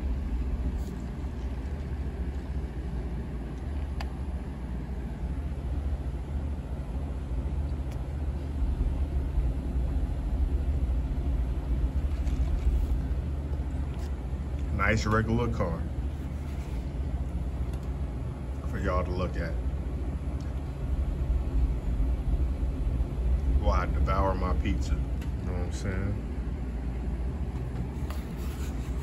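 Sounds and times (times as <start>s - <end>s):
traffic rumble through window: 0.0s - 29.0s.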